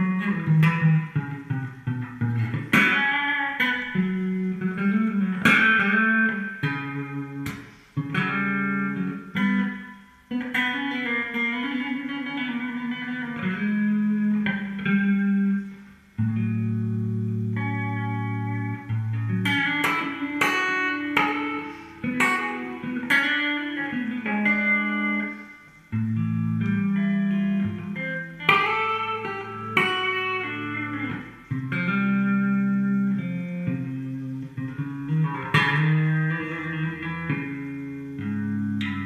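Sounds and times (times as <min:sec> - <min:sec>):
electric guitar picked melody: 0:00.0 - 0:39.0.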